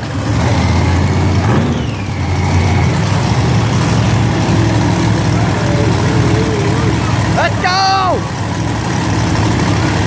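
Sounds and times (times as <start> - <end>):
monster truck engines rumbling: 0.0 - 10.0.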